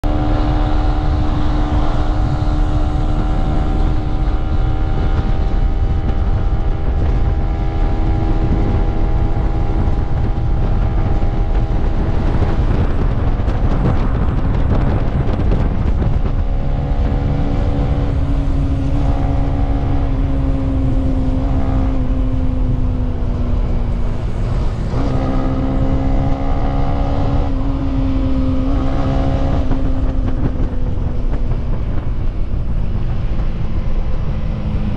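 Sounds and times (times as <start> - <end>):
motorcycle engine droning: 0.0 - 34.9
wind rumble on microphone: 0.0 - 34.9.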